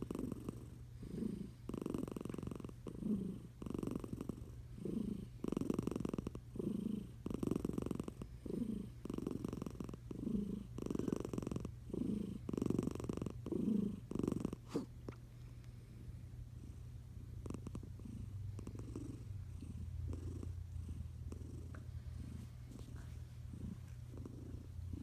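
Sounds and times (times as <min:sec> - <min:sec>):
cat snoring: 0:00.0 - 0:15.2, 0:16.6 - 0:25.0.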